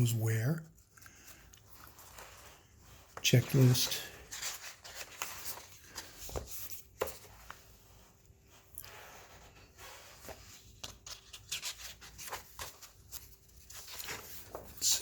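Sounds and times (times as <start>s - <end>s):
paper pages rustling: 0.8s - 15.0s.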